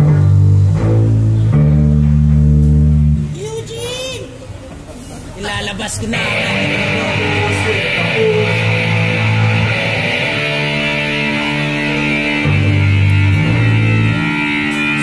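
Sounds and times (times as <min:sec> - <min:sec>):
bass guitar held notes: 0:00.0 - 0:03.4, 0:06.1 - 0:15.0
electric guitar held notes: 0:00.0 - 0:03.4, 0:06.1 - 0:15.0.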